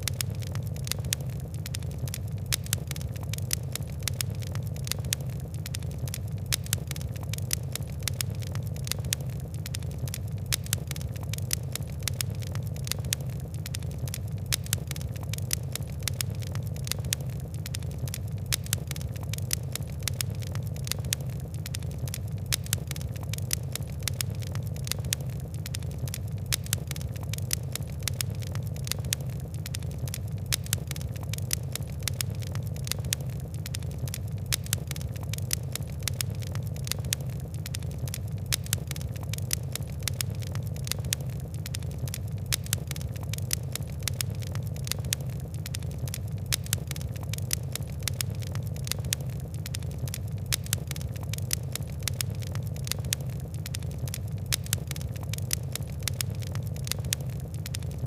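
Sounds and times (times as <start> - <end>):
fire crackling and popping: 0.0 - 58.0
low rumble of fire: 0.0 - 58.0.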